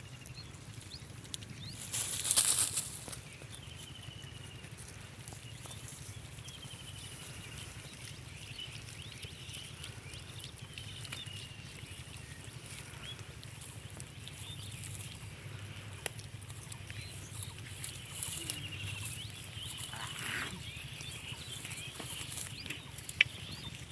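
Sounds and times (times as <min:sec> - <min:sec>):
small birds chirping: 0:00.0 - 0:23.9
steady low hum: 0:00.0 - 0:23.9.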